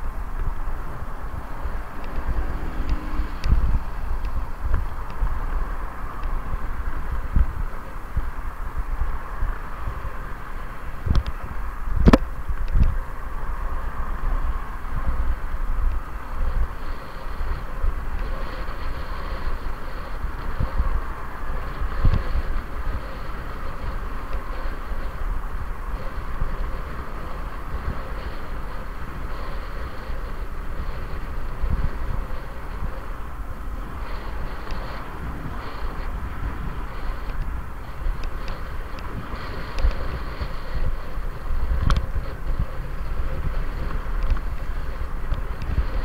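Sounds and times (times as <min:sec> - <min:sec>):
bicycle road noise: 0:00.0 - 0:46.0
cars passing: 0:00.0 - 0:46.0
wind buffeting microphone: 0:00.0 - 0:46.0.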